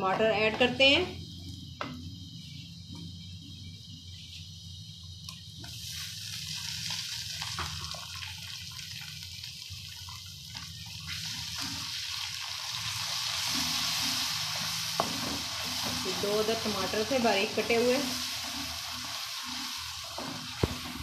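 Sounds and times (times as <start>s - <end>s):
tomatoes sizzling in oil: 0.0s - 21.0s.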